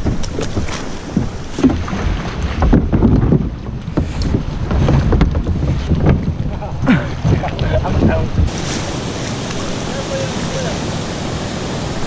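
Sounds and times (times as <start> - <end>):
river water splashing around kayaks: 0.0 - 12.0
wind rumbling on microphone: 0.0 - 12.0.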